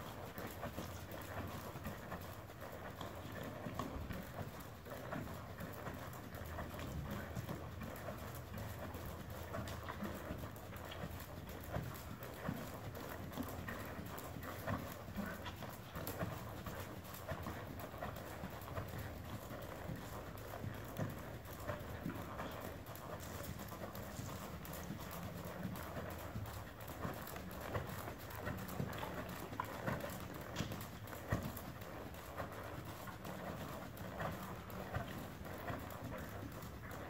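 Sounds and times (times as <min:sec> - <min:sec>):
horse hoofbeats on sand: 0:00.0 - 0:37.0.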